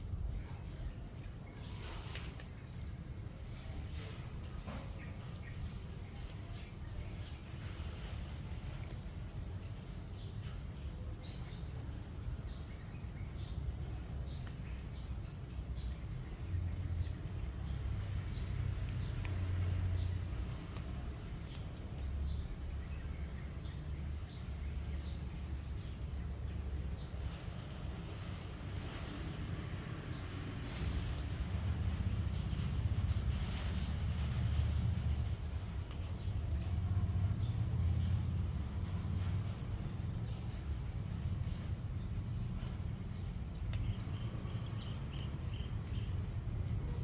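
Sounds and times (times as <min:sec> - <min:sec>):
birds chirping: 0:00.0 - 0:47.0
steady low rumble: 0:00.0 - 0:47.0.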